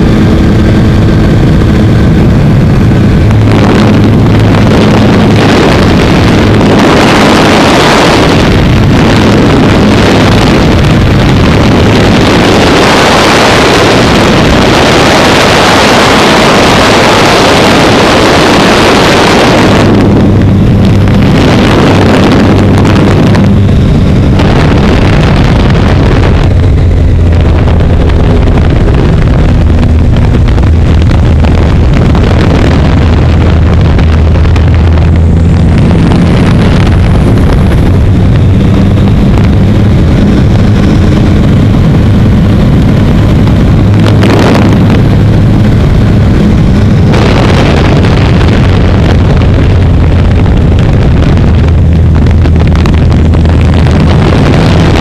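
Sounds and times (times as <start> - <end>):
biplane engine drone: 0.0 - 55.0
wind rush on microphone: 0.0 - 55.0.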